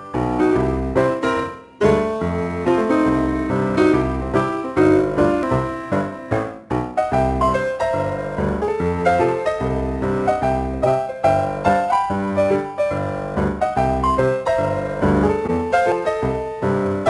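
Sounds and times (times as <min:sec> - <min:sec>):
bouncy piano tune with bass: 0:00.0 - 0:17.0.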